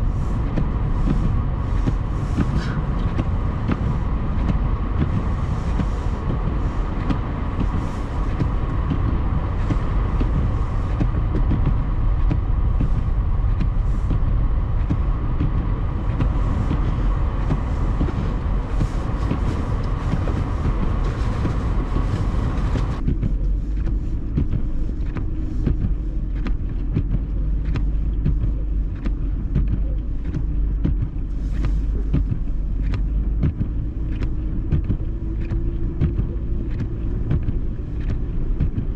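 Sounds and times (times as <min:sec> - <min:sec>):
low hum with small clicks: 0:00.0 - 0:38.9
vehicle driving through snow: 0:00.0 - 0:38.9.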